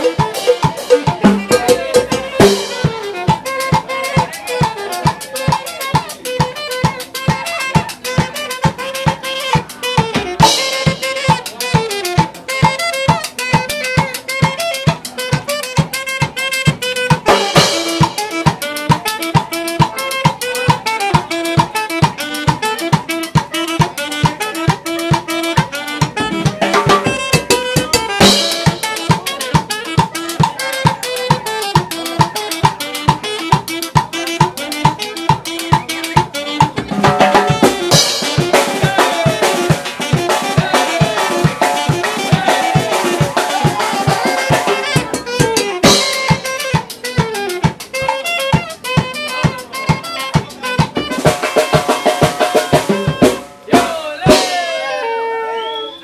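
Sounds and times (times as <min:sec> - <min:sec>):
band playing upbeat dance tune: 0:00.0 - 0:56.0
saxophone melody: 0:00.0 - 0:56.0.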